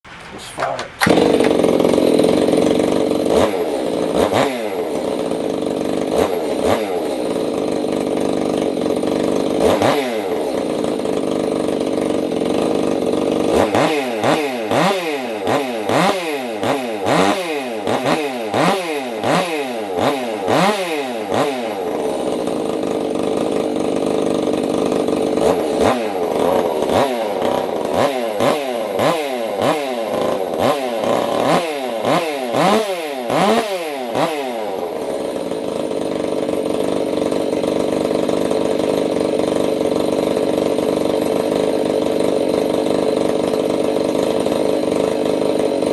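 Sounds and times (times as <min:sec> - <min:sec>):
chainsaw engine revving: 0:00.1 - 0:45.9.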